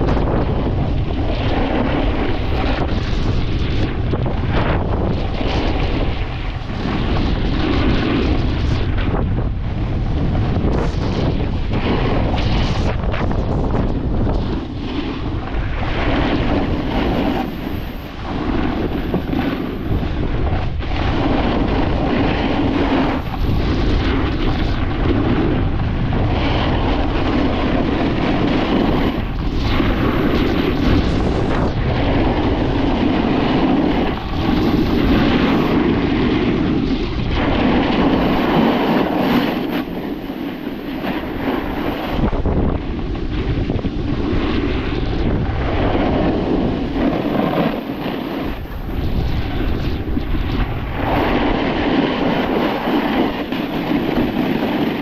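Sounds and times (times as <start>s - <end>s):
snowboard scraping over snow: 0.0s - 55.0s
wind buffeting microphone: 0.0s - 55.0s.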